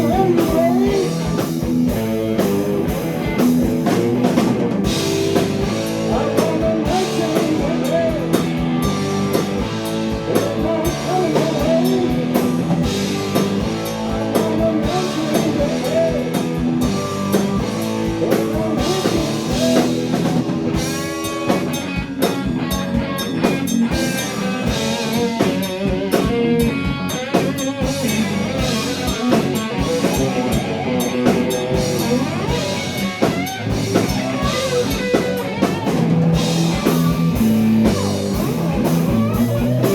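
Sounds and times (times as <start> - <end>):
blues rock band playing: 0.0 - 39.9.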